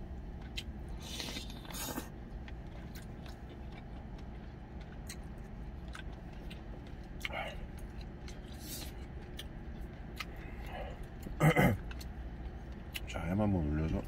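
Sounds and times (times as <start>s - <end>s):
person chewing food: 0.0s - 13.1s
steady low hum: 0.0s - 14.0s.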